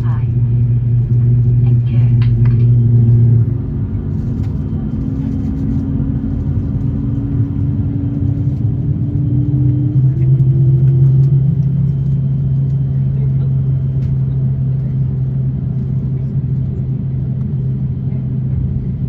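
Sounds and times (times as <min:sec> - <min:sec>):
aircraft cabin hum: 0:00.0 - 0:19.0
deep drone: 0:00.0 - 0:19.0.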